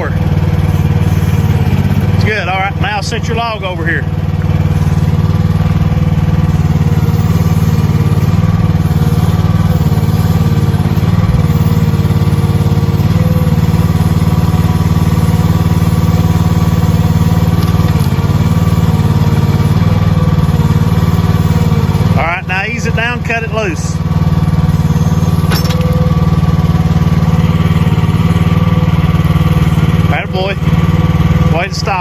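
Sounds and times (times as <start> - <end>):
small excavator engine running: 0.0 - 32.0.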